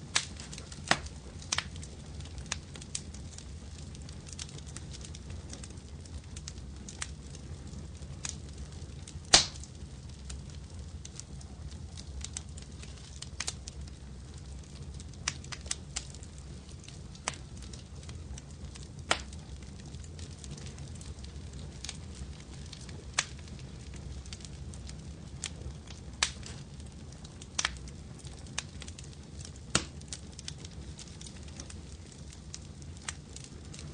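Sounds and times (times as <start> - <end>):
low steady fire rumble: 0.0 - 33.9
wood fire crackling and popping: 0.0 - 33.9.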